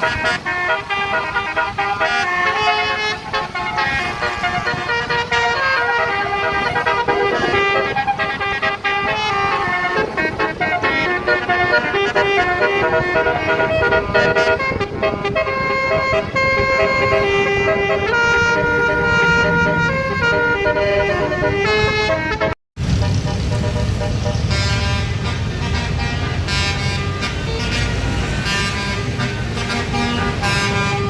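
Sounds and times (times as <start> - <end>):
bus engine running: 0.0 - 31.0
multi-note air horn melody: 0.0 - 31.0.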